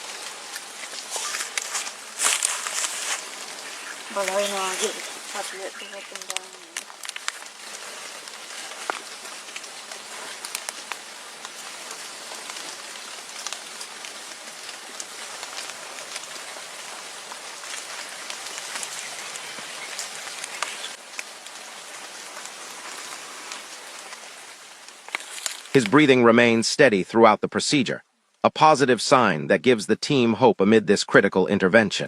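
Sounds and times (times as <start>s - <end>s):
small crackles and drips: 0.0s - 26.0s
falling water pattering: 0.0s - 26.6s.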